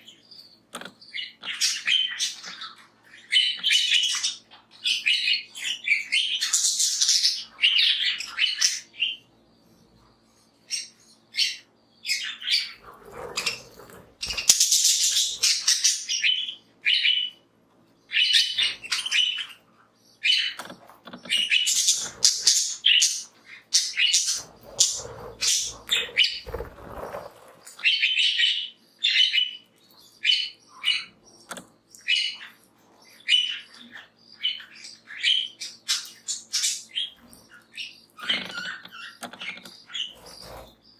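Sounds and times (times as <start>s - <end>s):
budgerigars chirping: 0.0s - 9.3s, 10.6s - 17.4s, 18.1s - 40.9s.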